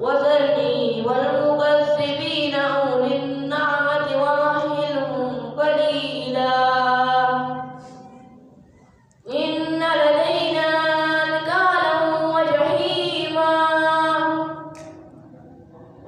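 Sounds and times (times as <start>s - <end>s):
boy chanting recitation: 0.0s - 16.0s.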